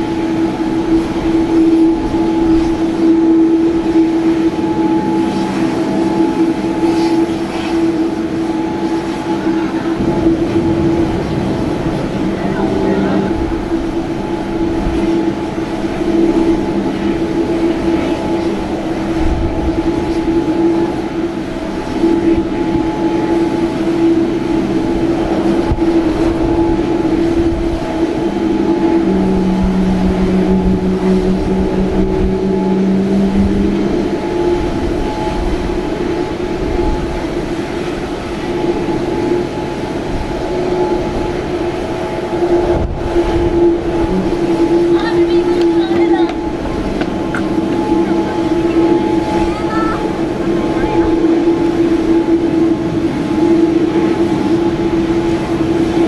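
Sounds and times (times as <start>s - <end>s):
jet engine whine: 0.0s - 56.0s
lower hum: 0.0s - 56.0s.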